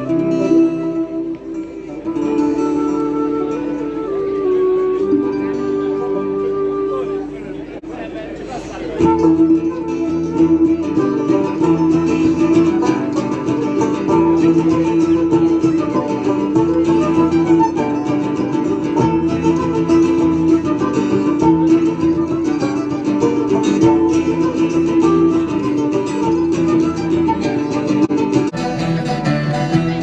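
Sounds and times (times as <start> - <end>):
folk band playing: 0.0 - 7.8, 8.6 - 30.0.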